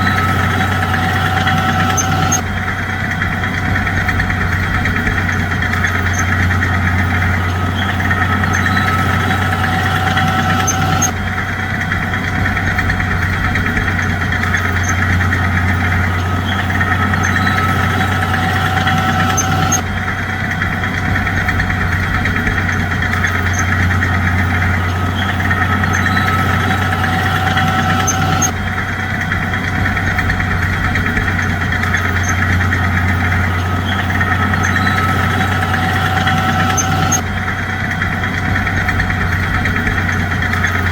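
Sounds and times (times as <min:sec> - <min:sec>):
bulldozer diesel engine humming: 0:00.0 - 0:40.9.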